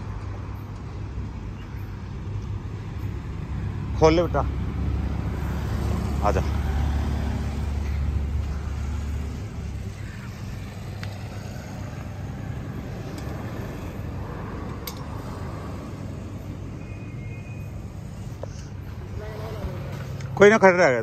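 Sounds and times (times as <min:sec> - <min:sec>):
engine humming: 0:00.0 - 0:21.0
faint steady rumble: 0:00.0 - 0:21.0.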